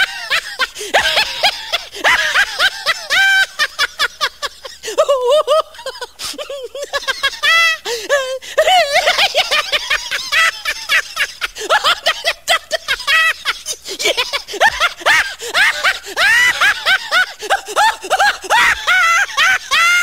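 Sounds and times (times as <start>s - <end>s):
high-pitched laughter: 0.0s - 20.0s.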